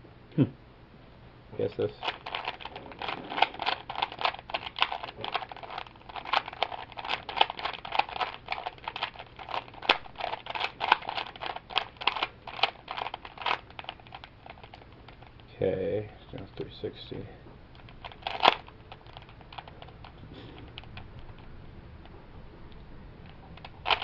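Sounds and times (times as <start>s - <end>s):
puzzle cube clicking turns: 2.0s - 15.5s, 16.2s - 22.1s, 22.7s - 24.0s.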